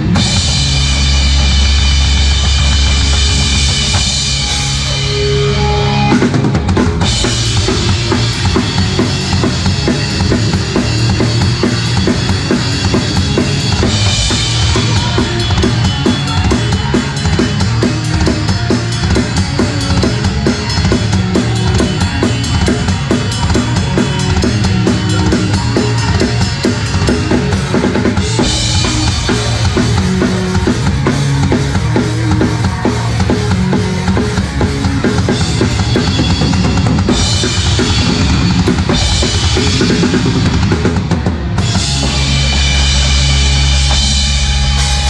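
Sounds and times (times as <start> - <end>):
fast rock drumming: 0.0 - 45.0
punk band playing: 0.0 - 45.0.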